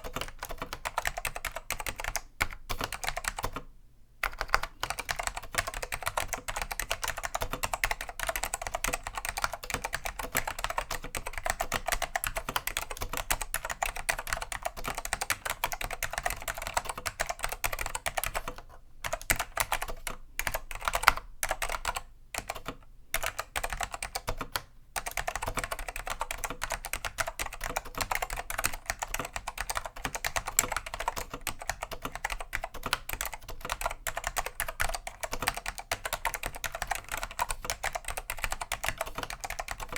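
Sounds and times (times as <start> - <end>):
fast clicky keyboard typing: 0.0 - 3.6, 4.2 - 39.9.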